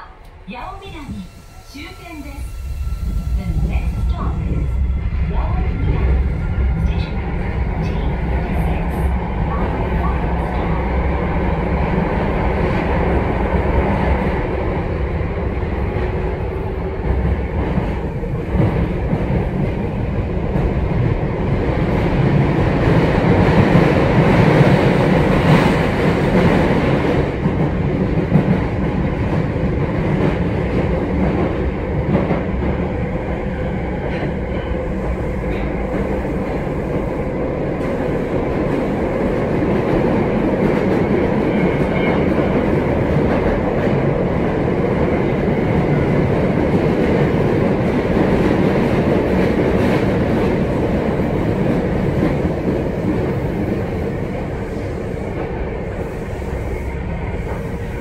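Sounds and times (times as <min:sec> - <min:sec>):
subway car wheels rumbling: 0:00.0 - 0:58.0.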